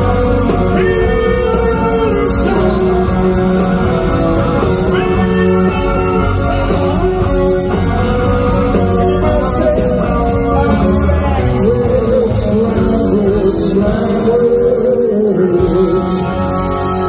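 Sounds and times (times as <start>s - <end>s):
person singing: 0.0s - 7.9s, 8.6s - 17.0s
live rock band playing: 0.0s - 17.0s.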